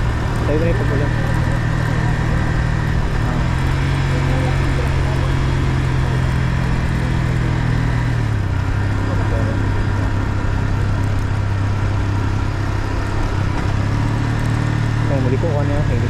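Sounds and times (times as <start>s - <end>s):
motorcycle engine running: 0.0s - 16.0s
wind and road rush: 0.0s - 16.0s.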